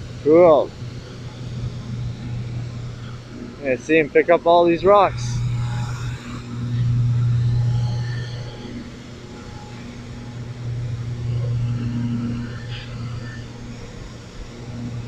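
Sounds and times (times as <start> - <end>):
street sweeper engine drone: 0.0 - 15.0.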